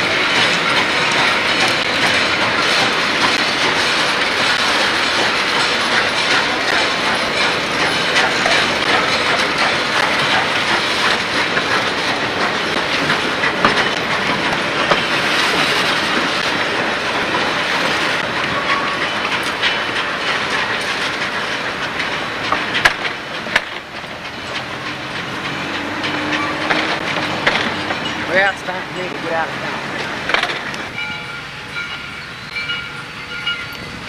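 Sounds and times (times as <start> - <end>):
steel wheels rumbling on rail: 0.0 - 34.0
wheels clanking over rail joints: 0.0 - 34.0.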